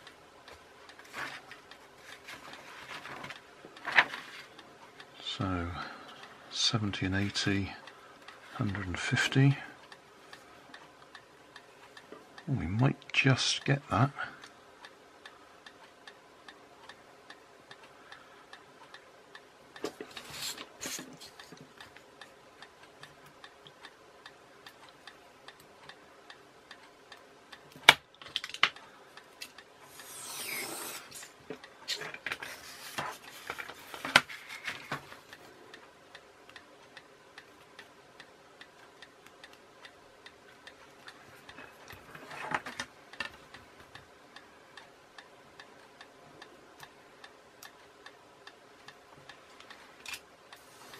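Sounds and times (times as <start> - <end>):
soft ticking: 0.0 - 30.4, 31.2 - 50.9.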